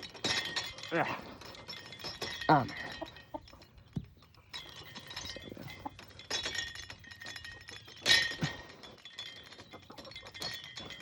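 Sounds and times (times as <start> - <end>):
light clinking and rattling: 0.0 - 11.0.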